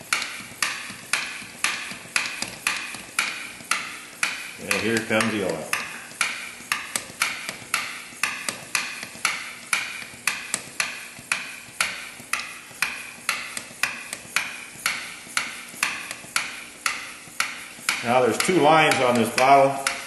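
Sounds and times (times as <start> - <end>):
hand vacuum pump clicking and hissing: 0.0 - 20.0.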